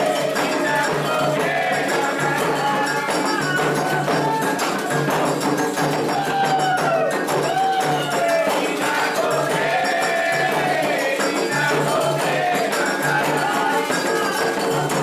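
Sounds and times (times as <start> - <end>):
hand drums: 0.0 - 15.0
rattling clinking percussion: 0.0 - 15.0
voices singing a chant: 0.0 - 15.0.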